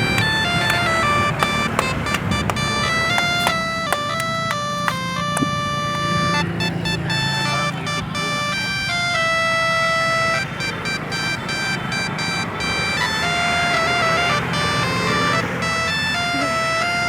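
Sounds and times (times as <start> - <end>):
bus engine humming: 0.0 - 17.0.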